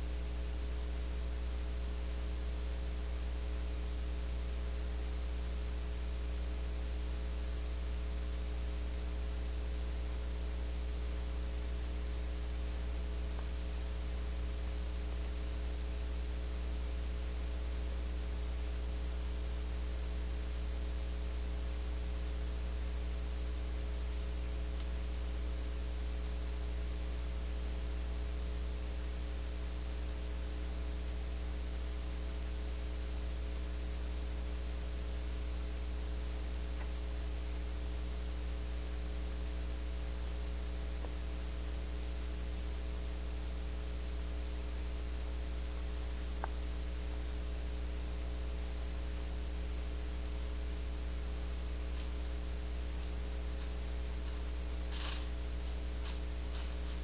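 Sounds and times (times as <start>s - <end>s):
constant hiss: 0.0s - 57.0s
electrical mains hum: 0.0s - 57.0s.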